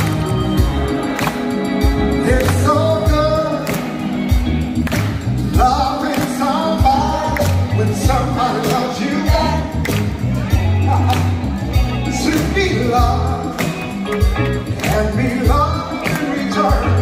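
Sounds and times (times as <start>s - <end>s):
song with vocals and heavy beat: 0.0s - 17.0s.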